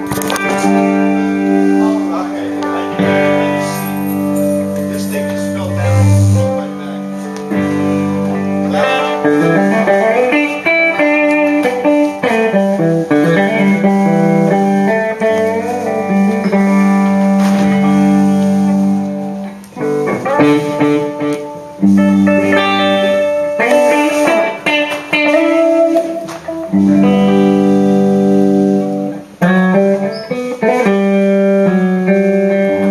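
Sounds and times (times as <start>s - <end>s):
guitar picked melody: 0.0s - 32.9s.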